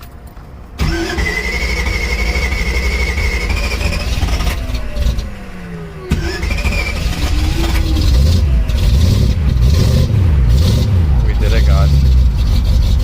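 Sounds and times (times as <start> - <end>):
starter motor cranking engine: 0.8 - 13.0.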